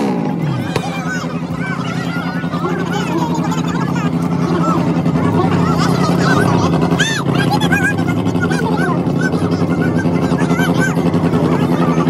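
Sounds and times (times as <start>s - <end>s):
car engine at steady revs: 0.0s - 12.0s.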